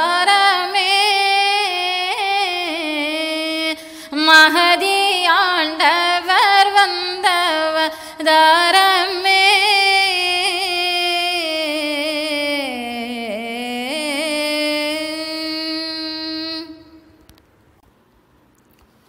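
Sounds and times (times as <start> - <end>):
person chanting: 0.0 - 17.2.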